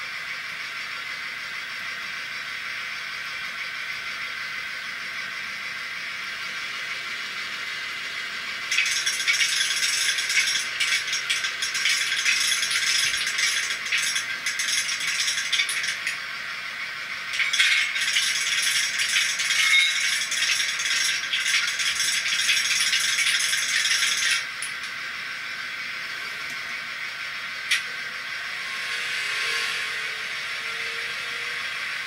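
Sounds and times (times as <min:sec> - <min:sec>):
diesel engine sound from small speaker: 0:00.0 - 0:32.0.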